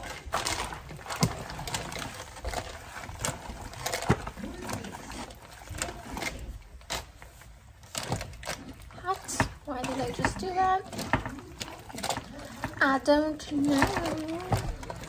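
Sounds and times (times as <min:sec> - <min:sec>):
foil crinkling: 0:00.0 - 0:15.0
spatula scraping: 0:00.0 - 0:15.0.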